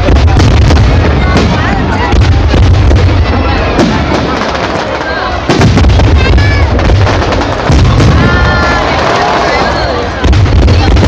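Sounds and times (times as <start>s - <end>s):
fireworks booming: 0.0s - 11.0s
fireworks sharp cracks: 0.0s - 11.0s.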